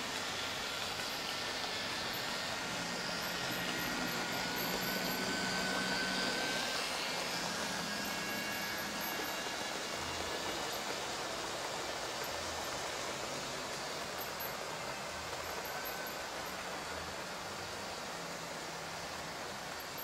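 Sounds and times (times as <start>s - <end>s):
model train motors whirring: 0.0s - 20.0s.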